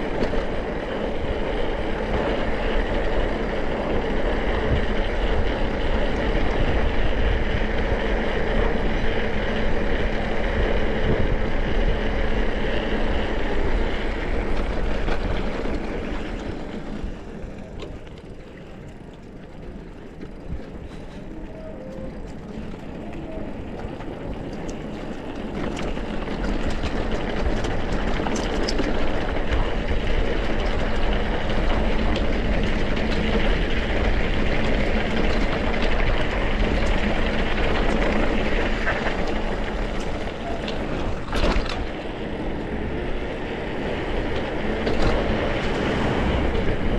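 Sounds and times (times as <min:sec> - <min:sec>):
bike tyres and rattle: 0:00.0 - 0:46.9
wind rumbling on microphone: 0:00.0 - 0:46.9.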